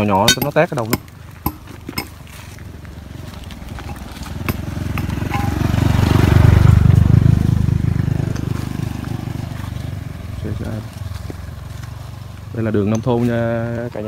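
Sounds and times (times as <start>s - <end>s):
small motorbike passing by: 2.5s - 14.0s.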